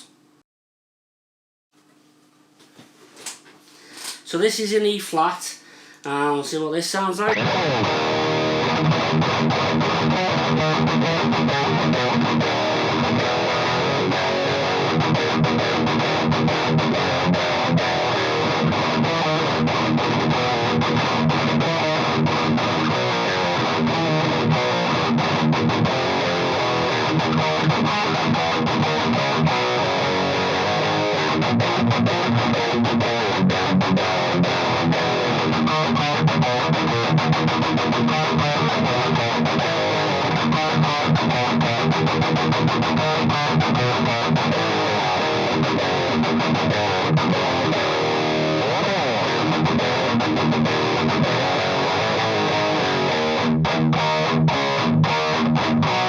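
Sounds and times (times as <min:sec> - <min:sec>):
distorted electric guitar riffing: 0:03.8 - 0:56.0.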